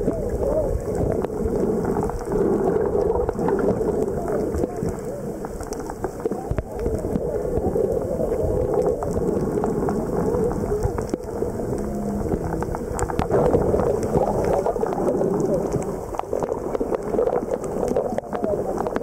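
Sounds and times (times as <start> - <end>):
sharp clicks and crackles: 0.0 - 19.0
underwater water rush: 0.0 - 19.0.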